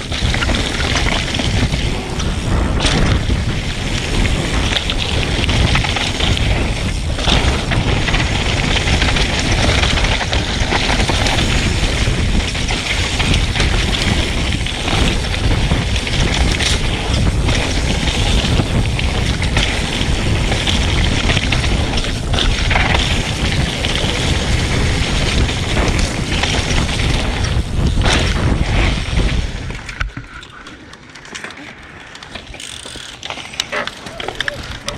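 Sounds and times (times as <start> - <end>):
bike rattling over bumps: 0.0 - 34.9
tyres rolling over dirt: 0.0 - 34.9
wind rush on microphone: 0.0 - 34.9.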